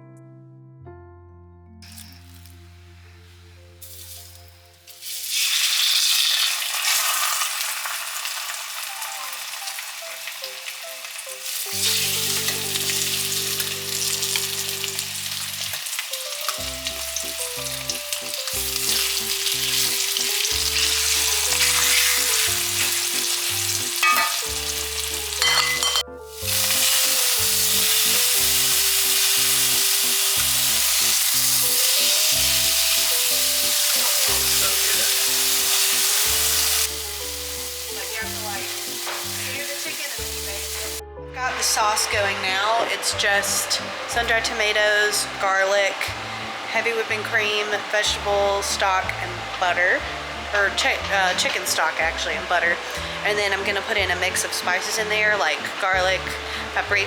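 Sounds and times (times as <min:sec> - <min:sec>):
soft background music: 0:00.0 - 0:57.0
food sizzling in a pan: 0:01.8 - 0:57.0.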